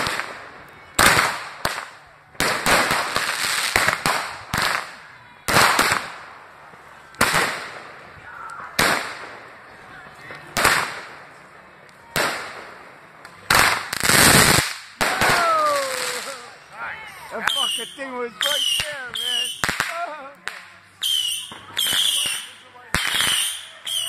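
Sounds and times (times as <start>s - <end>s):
fireworks bursting with sharp bangs: 0.0s - 9.6s, 10.3s - 16.7s, 17.4s - 24.0s.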